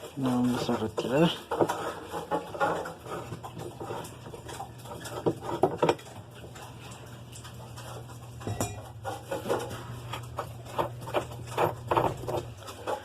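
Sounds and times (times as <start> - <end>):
metal clinking and clattering: 0.0 - 13.0.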